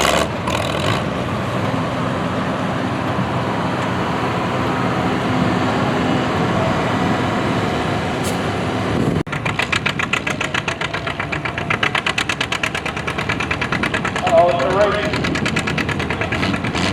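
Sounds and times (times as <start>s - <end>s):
engine exhaust beat: 0.0s - 16.9s
tractor engine running: 0.0s - 16.9s.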